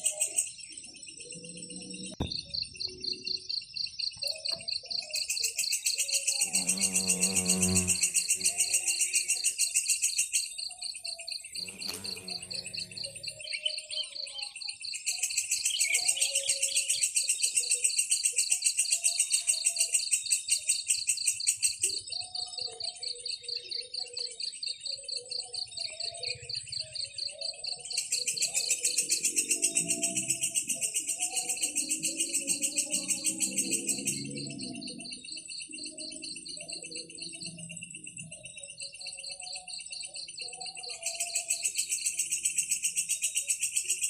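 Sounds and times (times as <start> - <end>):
bird chirps: 0.0 - 44.0
insects trilling: 0.0 - 44.0.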